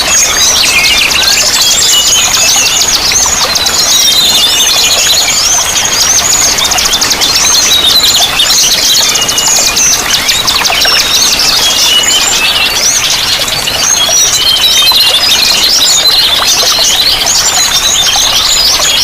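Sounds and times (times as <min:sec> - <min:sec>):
running water: 0:00.0 - 0:19.0
songbirds chirping: 0:00.0 - 0:19.0.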